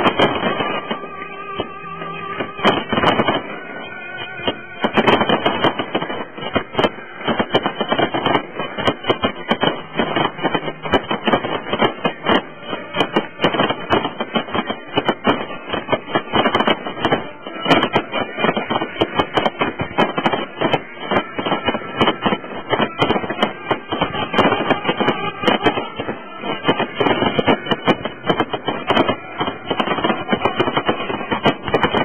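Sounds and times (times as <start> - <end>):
fireworks bursting and crackling: 0.0 - 32.0
music: 0.0 - 32.0.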